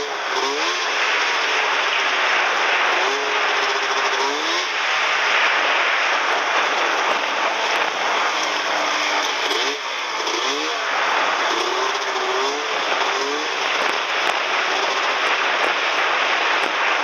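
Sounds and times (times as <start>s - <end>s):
snowmobile engine running: 0.0s - 17.0s
track and wind noise: 0.0s - 17.0s.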